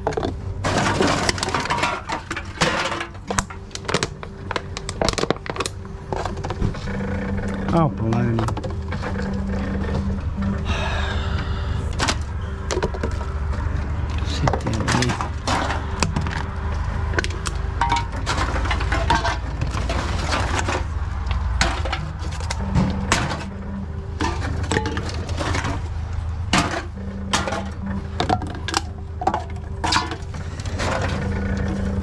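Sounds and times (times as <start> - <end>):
aluminium cans clattering: 0.0 - 10.1, 11.9 - 32.0
machine humming: 0.0 - 32.0.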